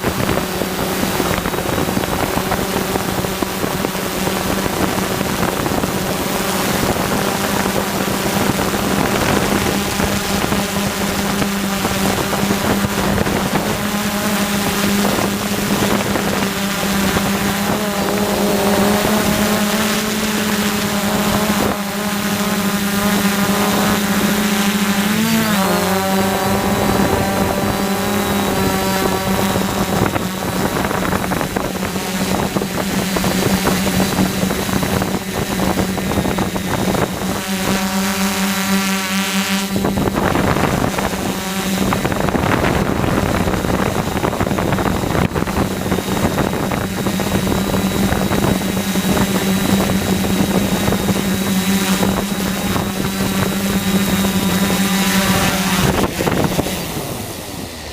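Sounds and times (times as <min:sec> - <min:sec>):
quadcopter motors buzzing: 0:00.0 - 0:57.9
wind on microphone: 0:00.0 - 0:57.9.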